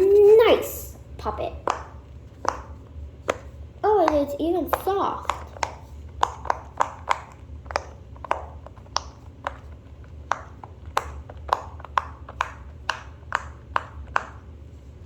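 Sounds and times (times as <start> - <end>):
fidget toy bubbles popping: 0.0 - 14.5.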